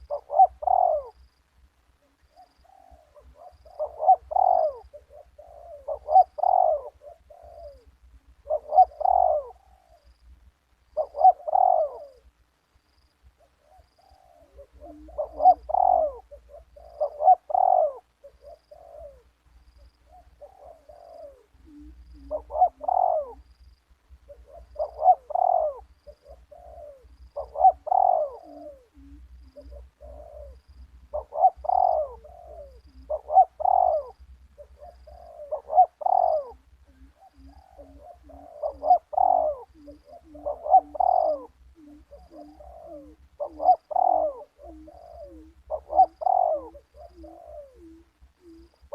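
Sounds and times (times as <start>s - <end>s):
dove cooing: 0.0s - 10.2s, 10.8s - 12.4s, 13.4s - 48.9s.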